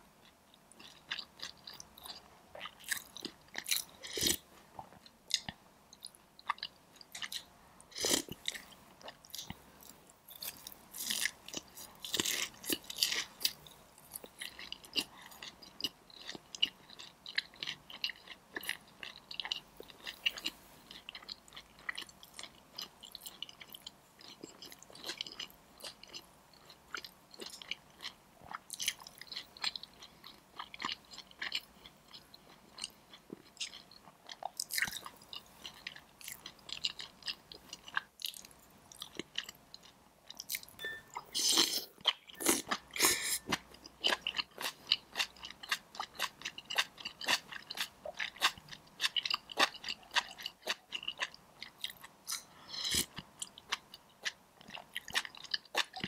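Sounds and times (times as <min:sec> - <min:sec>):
crunchy chewing: 0:06.4 - 0:40.7, 0:41.4 - 0:56.0.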